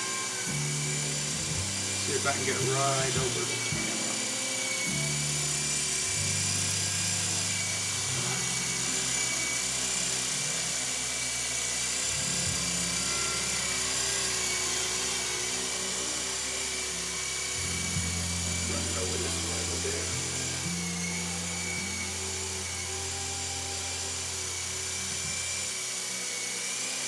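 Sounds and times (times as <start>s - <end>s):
high whine of electric motors: 0.0s - 27.0s.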